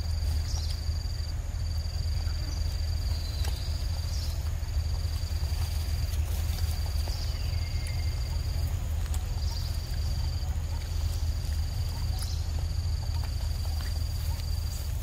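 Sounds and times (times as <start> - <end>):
insect trilling: 0.0 - 15.0
low steady rumble: 0.0 - 15.0.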